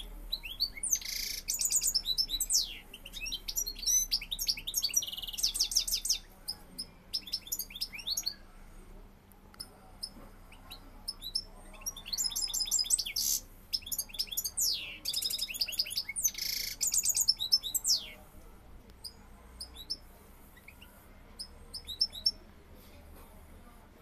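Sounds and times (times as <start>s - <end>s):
finch twittering song: 0.0s - 8.4s, 9.6s - 18.3s, 19.0s - 22.5s.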